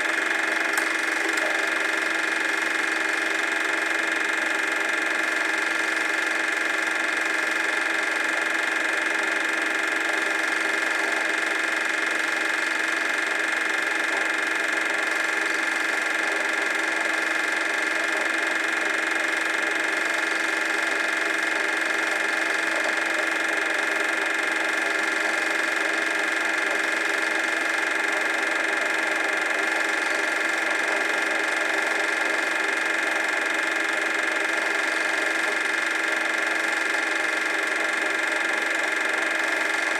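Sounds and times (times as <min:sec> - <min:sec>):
film projector whirr: 0:00.0 - 0:39.9.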